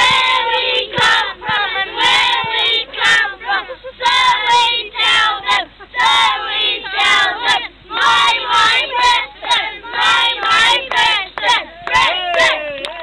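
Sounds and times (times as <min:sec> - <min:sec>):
boys singing in unison: 0:00.0 - 0:12.6.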